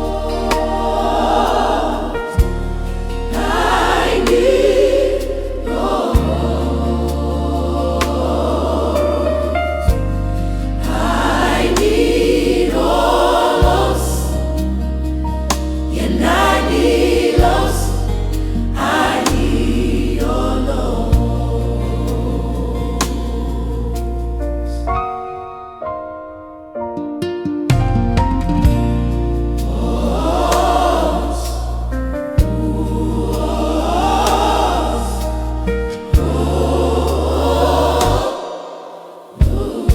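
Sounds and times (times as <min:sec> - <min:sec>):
bass line: 0:00.0 - 0:24.9, 0:28.0 - 0:38.3, 0:39.4 - 0:39.9
gospel choir singing: 0:00.0 - 0:25.2, 0:28.8 - 0:39.9.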